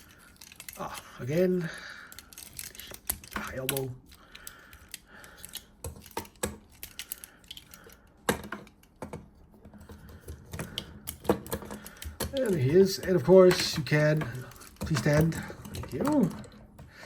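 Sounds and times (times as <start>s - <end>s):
plastic toy parts clicking: 0.0s - 17.0s.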